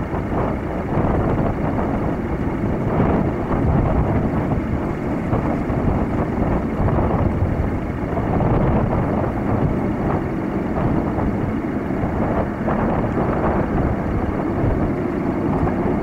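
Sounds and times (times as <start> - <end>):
distant jet airliner rumble: 0.0 - 16.0
wind buffeting microphone: 0.0 - 16.0.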